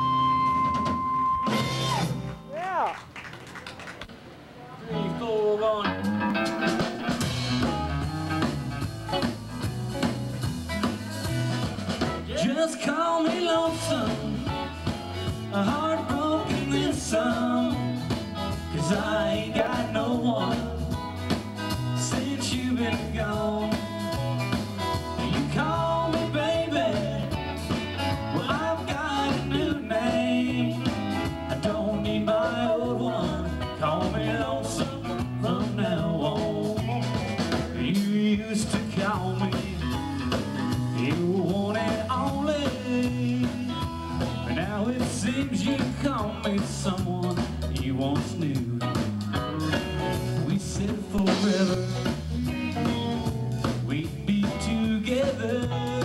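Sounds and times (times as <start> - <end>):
country-rock band playing: 0.0 - 2.9, 4.9 - 56.0
electric guitar: 0.0 - 56.0.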